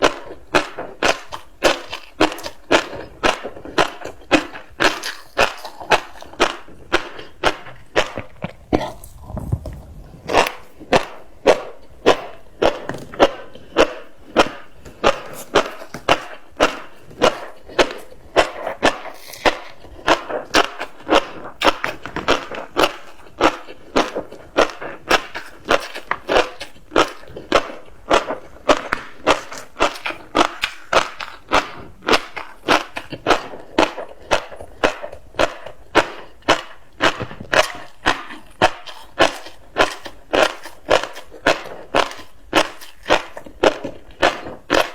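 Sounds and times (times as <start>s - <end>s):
fish roe crunching when chewed: 0.0s - 44.9s.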